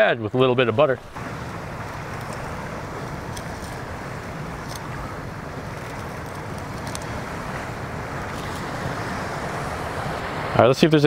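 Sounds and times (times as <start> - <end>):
ocean surf: 0.0 - 11.0
wind: 0.0 - 11.0.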